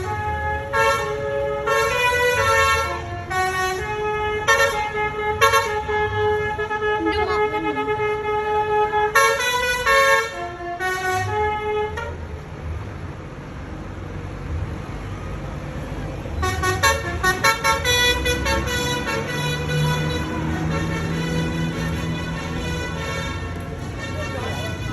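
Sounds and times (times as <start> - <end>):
bus multi-tone horn tune: 0.0 - 12.4, 16.3 - 24.9.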